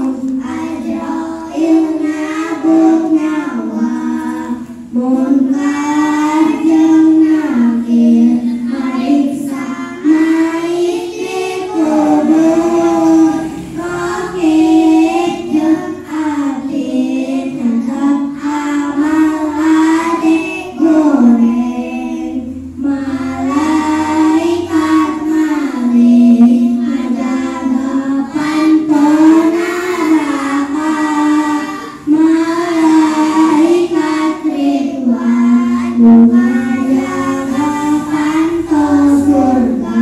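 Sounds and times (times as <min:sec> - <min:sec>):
boys singing together: 0:00.0 - 0:40.0.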